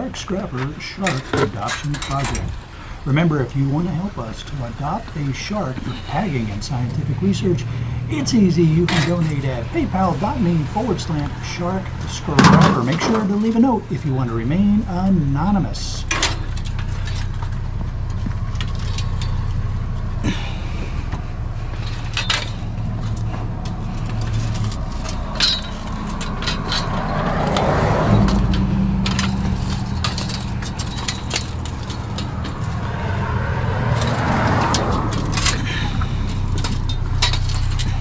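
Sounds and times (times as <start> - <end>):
passing traffic noise: 0.0 - 38.0
vehicle engine running: 0.0 - 38.0
clicks and rattles: 0.6 - 2.7, 3.9 - 14.6, 16.0 - 38.0.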